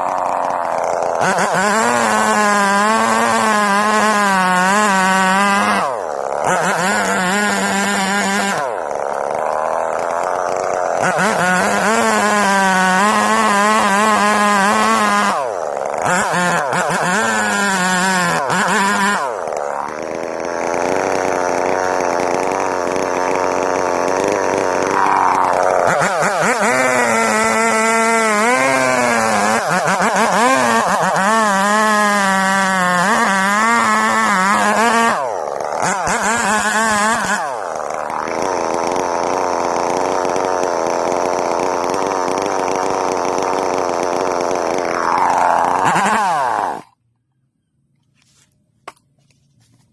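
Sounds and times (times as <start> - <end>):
chainsaw cutting wood: 0.0 - 47.1, 48.0 - 49.9.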